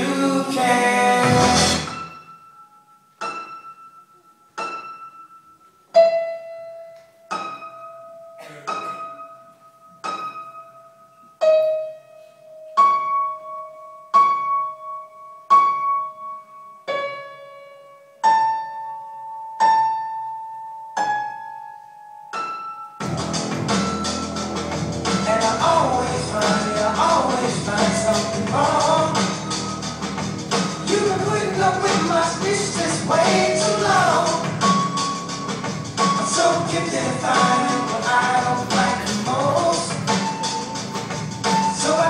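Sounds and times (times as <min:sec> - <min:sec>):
full music track: 0:00.0 - 0:15.2, 0:18.4 - 0:42.0
slow piano notes: 0:00.0 - 0:42.0.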